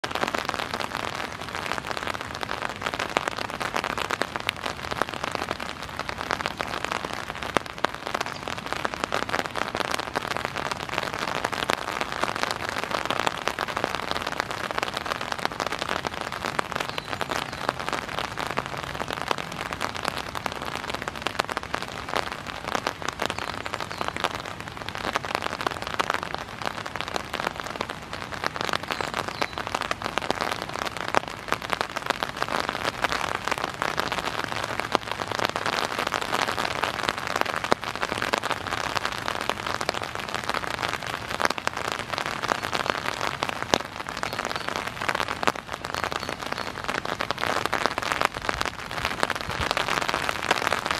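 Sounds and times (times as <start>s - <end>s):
rain rattling on umbrella: 0.0s - 50.9s.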